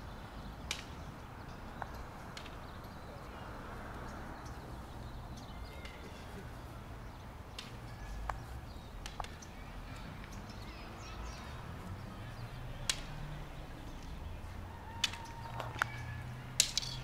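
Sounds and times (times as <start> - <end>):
quiet outdoor ambience: 0.0 - 17.0.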